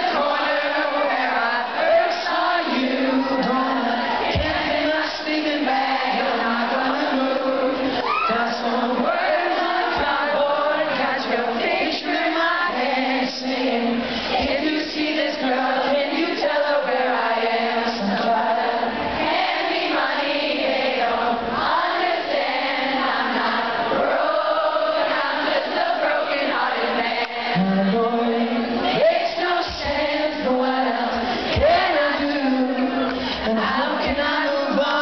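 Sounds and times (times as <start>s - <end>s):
crowd singing along: 0.0s - 35.0s.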